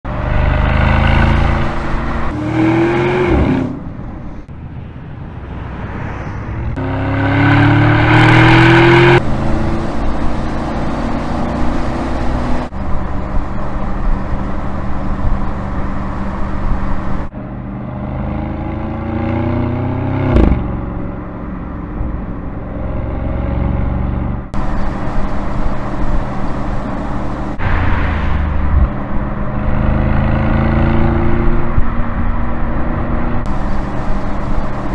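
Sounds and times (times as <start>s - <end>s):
car engine accelerating: 0.0s - 4.1s, 5.4s - 34.9s.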